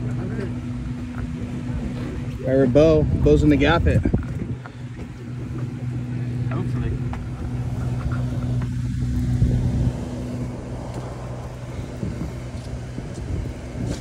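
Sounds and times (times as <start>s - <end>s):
boat engine humming: 0.0s - 14.0s
wind: 0.0s - 14.0s.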